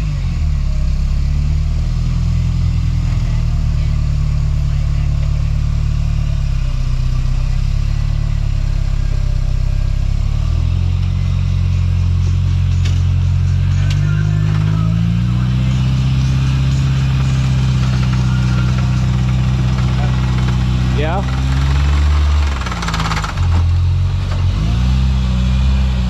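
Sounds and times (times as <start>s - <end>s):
buggy engine working under load: 0.0s - 26.0s.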